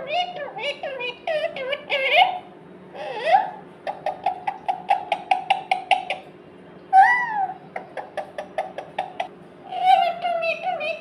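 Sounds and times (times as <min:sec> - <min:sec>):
parrot chirping: 0:00.0 - 0:02.5, 0:03.2 - 0:06.3, 0:06.9 - 0:11.0.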